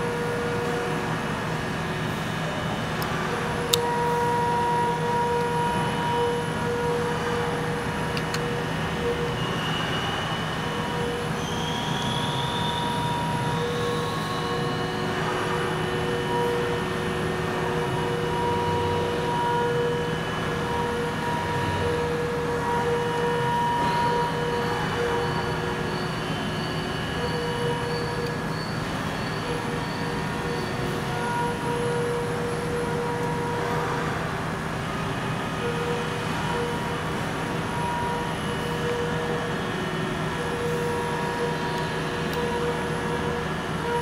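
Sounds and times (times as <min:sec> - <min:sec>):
machine hum with held tones: 0:00.0 - 0:44.0.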